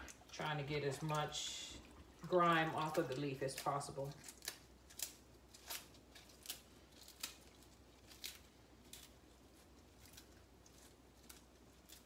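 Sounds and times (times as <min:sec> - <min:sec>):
leaves and stems snapping: 0:02.2 - 0:12.0.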